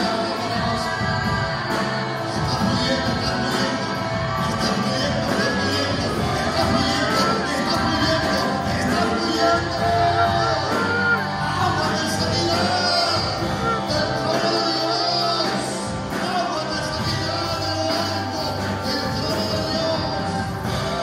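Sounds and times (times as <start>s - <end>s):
electric bass: 0.0s - 21.0s
electric guitar: 0.0s - 21.0s
keyboard playing: 0.0s - 21.0s
person singing: 0.0s - 21.0s.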